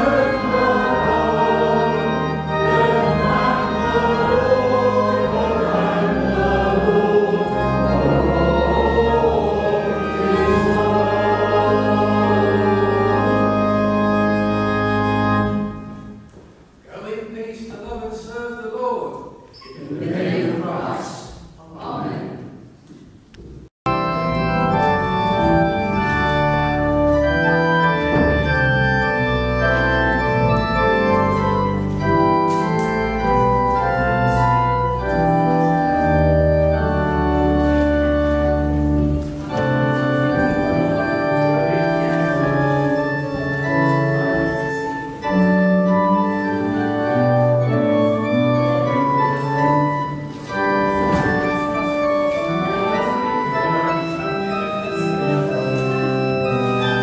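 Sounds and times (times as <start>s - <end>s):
church organ playing chords: 0.0s - 16.4s, 23.9s - 57.0s.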